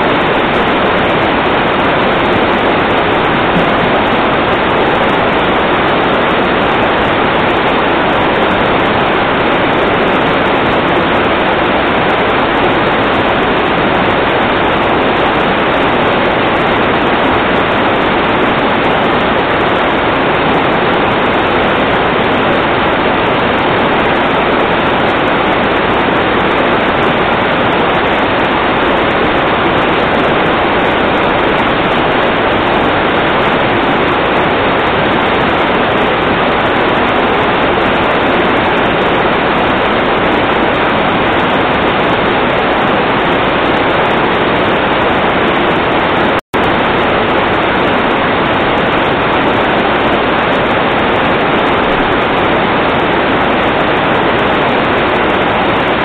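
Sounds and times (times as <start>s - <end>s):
loud rushing water: 0.0s - 56.0s.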